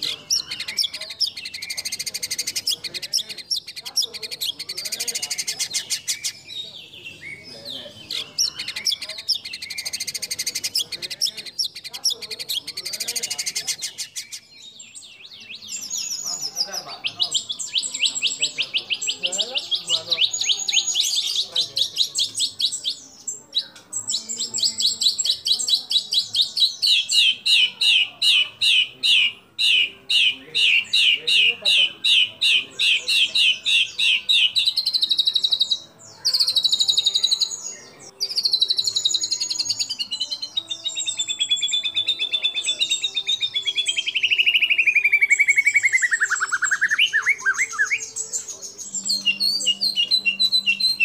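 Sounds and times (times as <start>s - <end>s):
songbird singing trills: 0.0s - 51.0s.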